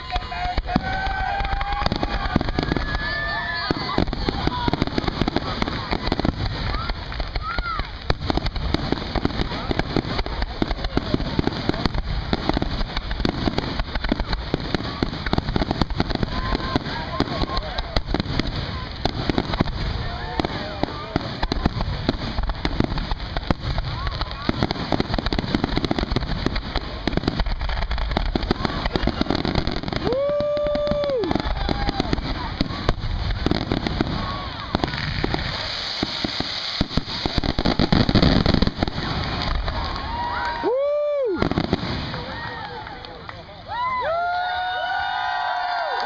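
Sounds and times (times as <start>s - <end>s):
fireworks cracking and banging: 0.0s - 46.0s.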